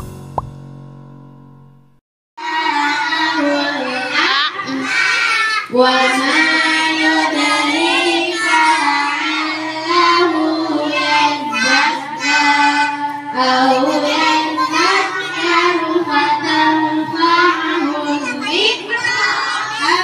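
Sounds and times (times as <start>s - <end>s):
children chanting in unison: 2.4s - 20.0s.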